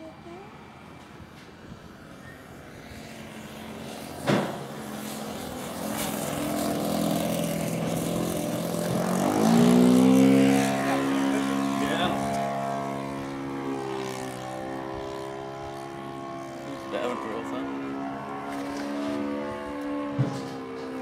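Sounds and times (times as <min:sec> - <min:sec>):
model airplane engine passing: 0:00.0 - 0:21.0.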